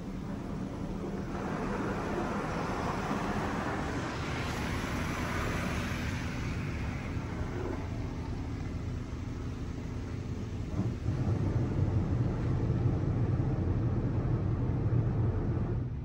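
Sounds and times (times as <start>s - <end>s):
car wash water spray hiss: 0.0s - 13.6s.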